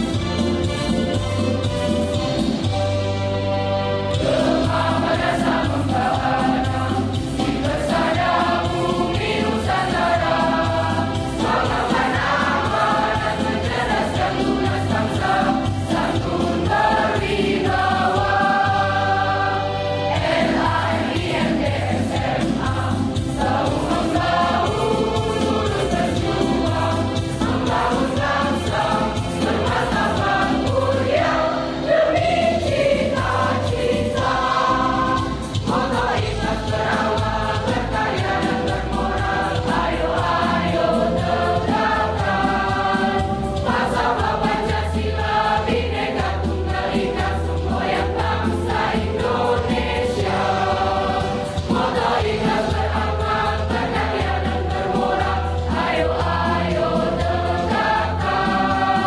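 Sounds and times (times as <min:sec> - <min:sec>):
choir singing: 0:03.8 - 0:59.0.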